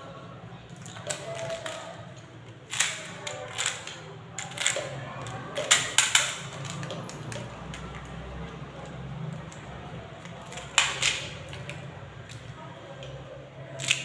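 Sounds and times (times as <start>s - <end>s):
plastic wrappers crinkling: 0.7s - 12.4s.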